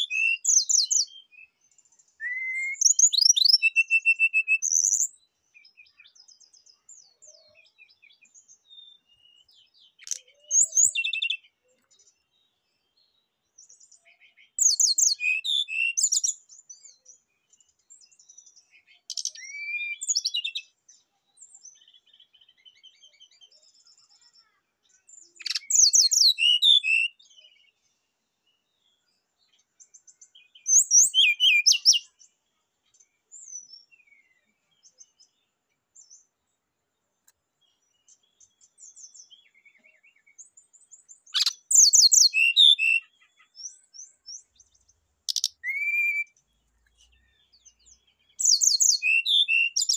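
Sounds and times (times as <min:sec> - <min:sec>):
bird twittering song: 0:00.0 - 0:49.9
soft bird chirps: 0:00.0 - 0:49.9.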